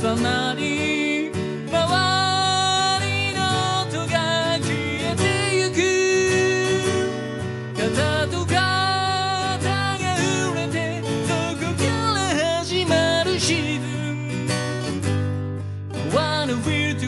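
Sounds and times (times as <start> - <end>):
man singing: 0.0 - 14.9, 15.9 - 17.0
strummed acoustic guitar: 0.0 - 17.0.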